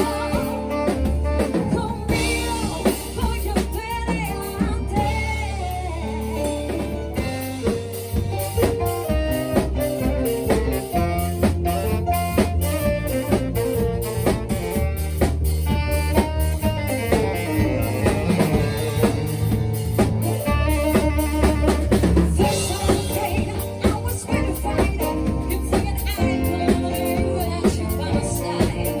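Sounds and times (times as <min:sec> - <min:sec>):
drum kit rimshots: 0:00.0 - 0:29.0
live band playing: 0:00.0 - 0:29.0.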